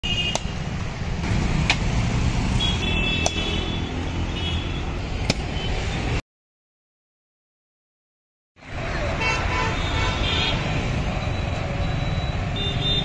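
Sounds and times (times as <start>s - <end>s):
street traffic rumble: 0.0s - 6.2s, 8.6s - 13.0s.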